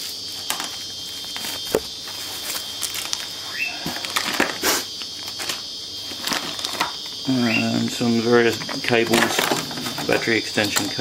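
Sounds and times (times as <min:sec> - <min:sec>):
packaging rustling: 0:00.0 - 0:07.2, 0:08.5 - 0:11.0.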